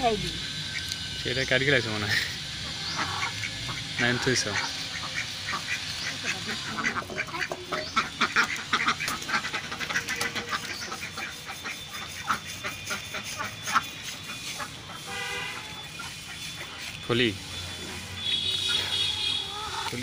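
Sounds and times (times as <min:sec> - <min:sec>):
ducks quacking: 0:02.0 - 0:17.0, 0:17.7 - 0:20.0.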